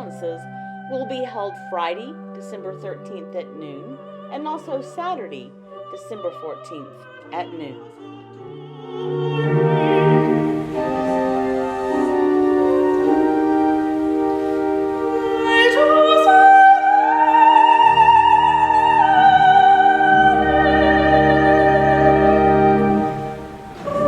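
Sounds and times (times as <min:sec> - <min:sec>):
instrumental accompaniment: 0:00.0 - 0:24.0
operatic soprano singing: 0:00.0 - 0:24.0.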